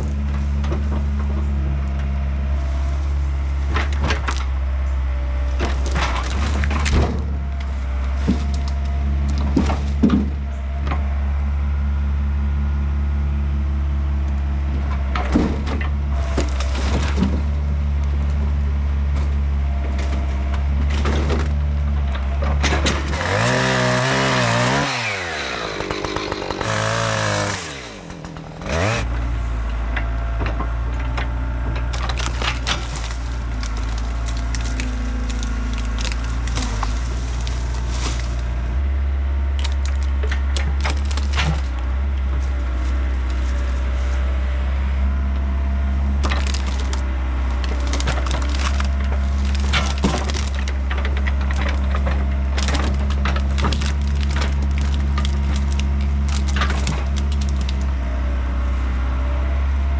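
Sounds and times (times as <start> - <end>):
wood cracking and snapping: 0.0 - 11.0, 14.9 - 58.3
diesel engine running: 0.0 - 59.9.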